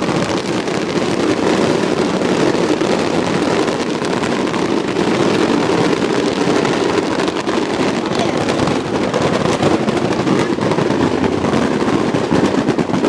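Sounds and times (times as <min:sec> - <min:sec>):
fireworks rumble with crackling: 0:00.0 - 0:13.0.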